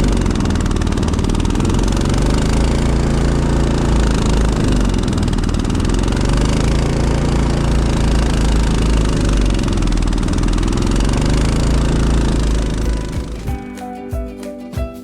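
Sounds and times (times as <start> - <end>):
snowblower engine running: 0.0 - 13.4.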